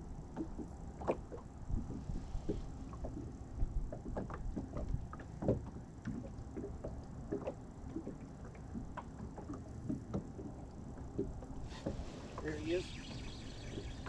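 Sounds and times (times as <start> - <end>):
waves lapping against boat hull: 0.0 - 14.0
wind: 0.0 - 14.0.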